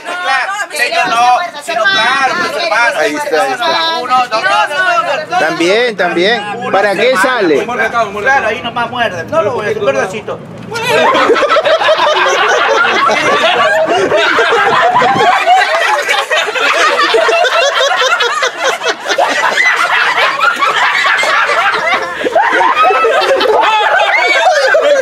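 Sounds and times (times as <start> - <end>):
people laughing: 0.0 - 8.2, 10.7 - 25.0
people talking: 0.0 - 25.0.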